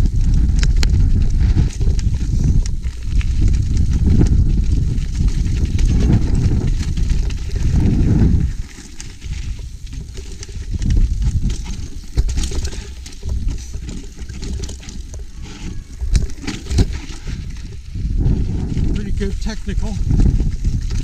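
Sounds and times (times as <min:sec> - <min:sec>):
bike rattling over rough trail: 0:00.0 - 0:21.0
wind rumbling on microphone: 0:00.0 - 0:21.0.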